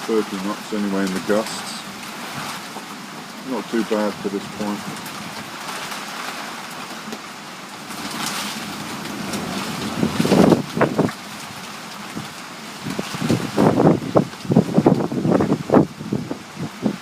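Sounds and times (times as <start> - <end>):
rain: 0.0 - 17.0
storm wind blowing: 0.0 - 17.0
wind gusts battering microphone: 0.0 - 17.0.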